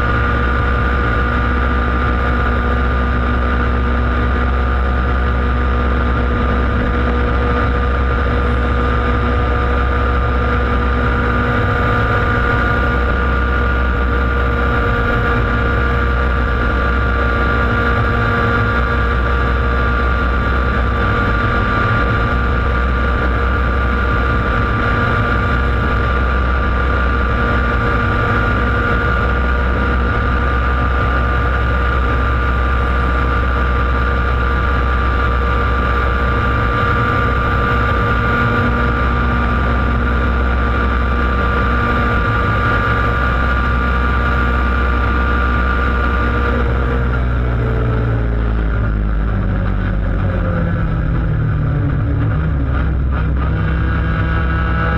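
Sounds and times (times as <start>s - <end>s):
kart engine running high pitch: 0.0s - 54.9s.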